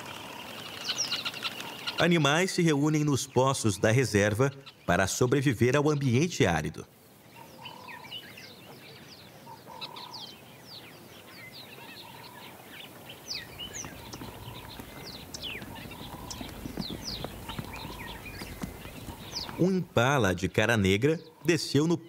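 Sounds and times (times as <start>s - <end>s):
lower bird calls: 0.0s - 6.3s, 7.1s - 22.0s
small birds chirping: 0.0s - 22.0s.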